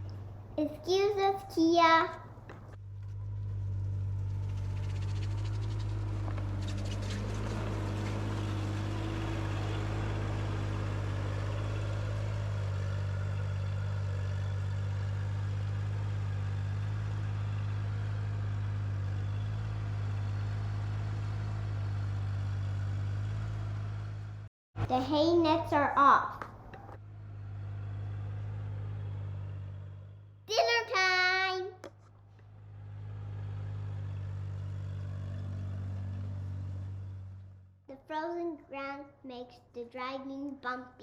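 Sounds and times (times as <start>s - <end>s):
skid steer engine running: 2.4s - 24.9s, 26.4s - 31.6s, 32.4s - 37.6s.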